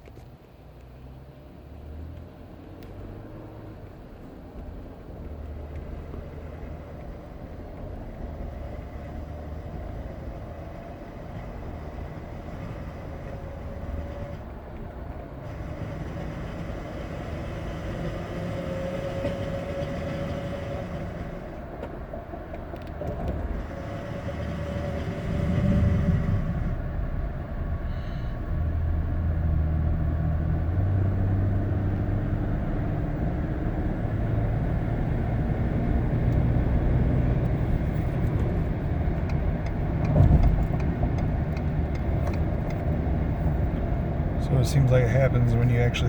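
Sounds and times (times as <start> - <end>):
road rumble: 0.0 - 46.0
grinding drone from wheel hubs: 2.9 - 46.0.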